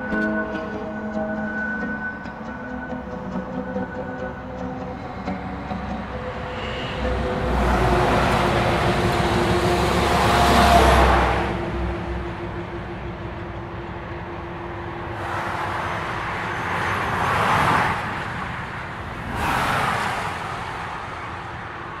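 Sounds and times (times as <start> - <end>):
low drone: 0.0 - 22.0.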